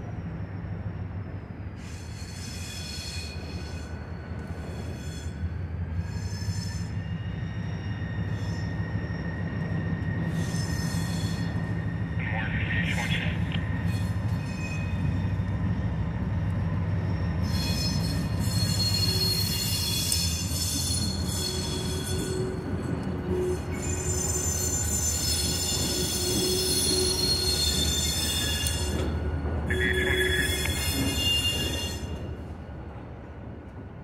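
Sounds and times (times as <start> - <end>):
wheels squealing against rails: 0.0 - 12.2, 13.7 - 32.6
diesel locomotive engine drone: 0.0 - 34.0.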